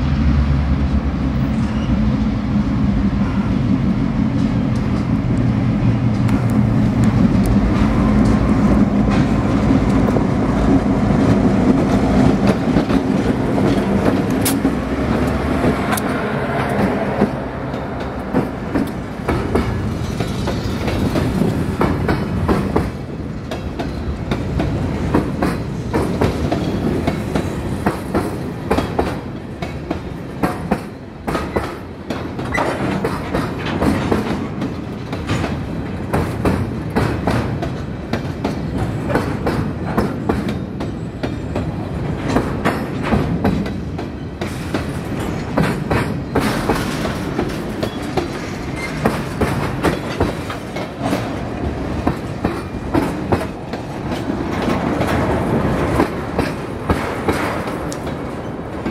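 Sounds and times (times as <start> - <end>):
steel wheels rumbling on rail: 0.0 - 58.9
wheels clacking over rail joints: 4.2 - 58.9.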